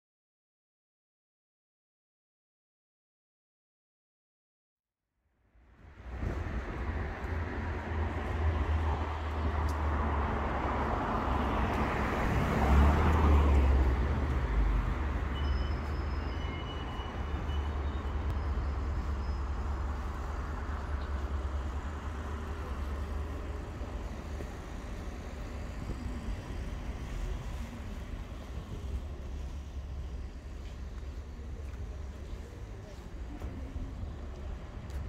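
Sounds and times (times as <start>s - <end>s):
low traffic rumble: 5.4s - 35.0s.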